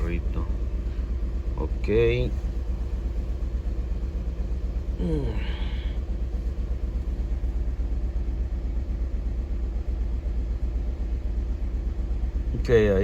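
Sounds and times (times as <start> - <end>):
car engine idling with misfire: 0.0 - 13.0.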